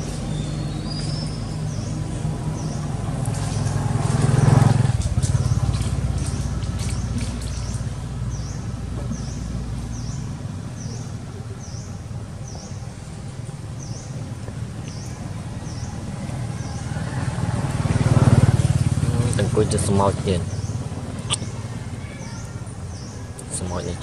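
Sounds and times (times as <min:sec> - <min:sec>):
bird chirping: 0:00.0 - 0:03.7, 0:05.2 - 0:17.2, 0:18.4 - 0:24.0
vehicle engine drone: 0:00.0 - 0:24.0.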